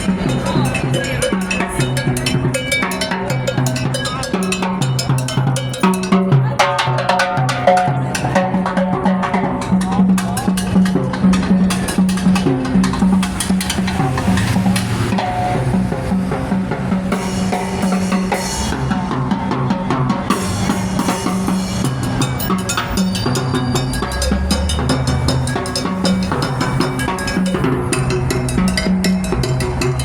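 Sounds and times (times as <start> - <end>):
rapid drumming: 0.0 - 30.0.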